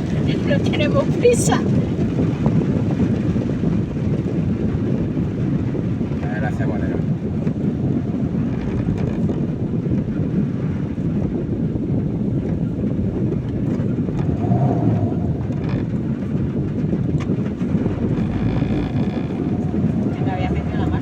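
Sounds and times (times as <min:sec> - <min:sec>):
car engine and tyres rumbling: 0:00.0 - 0:21.0
heavy rain: 0:00.0 - 0:21.0.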